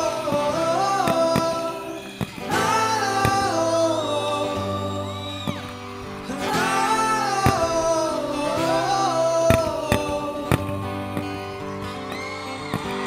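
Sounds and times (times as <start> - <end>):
person singing: 0.0 - 13.0.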